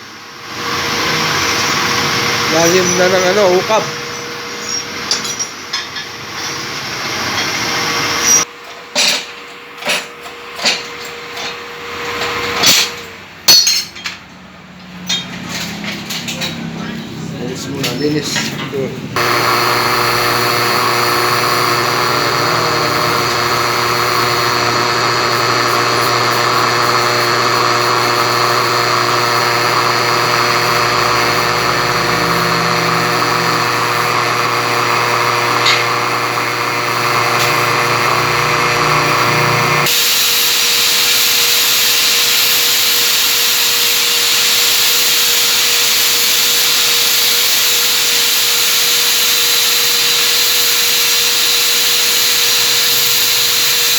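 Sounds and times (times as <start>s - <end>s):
power tool running: 0.0s - 8.5s, 19.2s - 53.9s.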